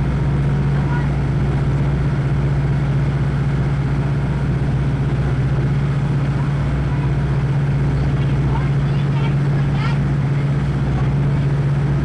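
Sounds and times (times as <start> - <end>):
boat engine drone: 0.0 - 12.0
rushing water noise: 0.0 - 12.0.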